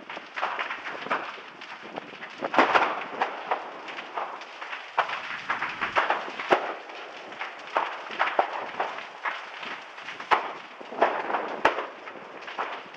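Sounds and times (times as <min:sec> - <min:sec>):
lava crackling and popping: 0:00.0 - 0:12.9
loud lava cracks: 0:00.0 - 0:12.9.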